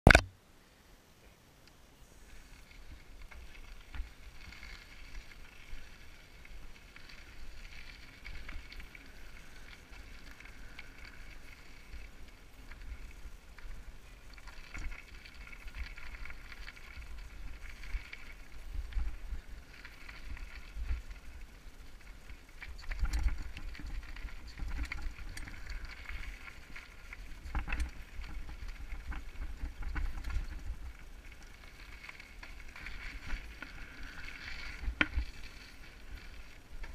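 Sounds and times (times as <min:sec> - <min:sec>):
bike rattling over bumps: 0:02.5 - 0:36.9.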